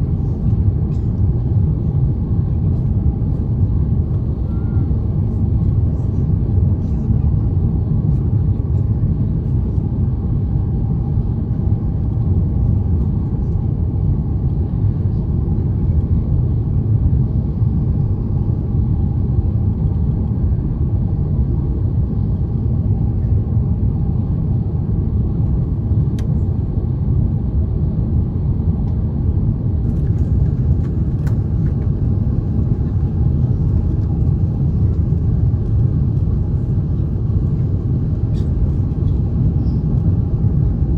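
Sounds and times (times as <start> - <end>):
airliner cabin rumble: 0.0 - 40.9.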